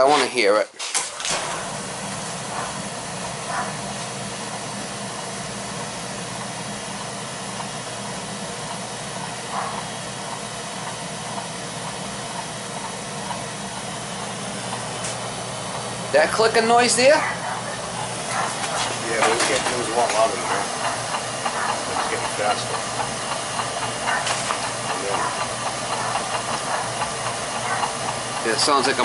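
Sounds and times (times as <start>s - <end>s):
oil burner blower and flame rush: 0.0s - 29.0s
low motor hum: 1.1s - 29.0s.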